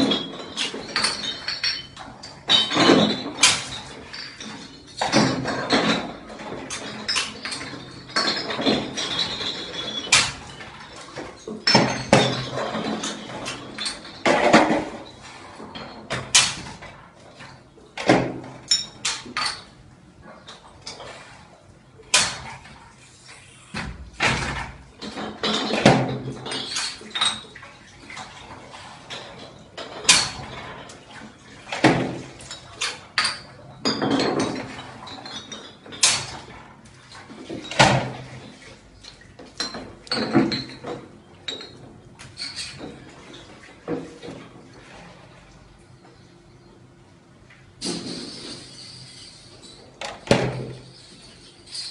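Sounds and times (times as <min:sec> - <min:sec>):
glass bottles clinking: 0:00.0 - 0:21.1, 0:23.8 - 0:44.6, 0:47.7 - 0:51.9.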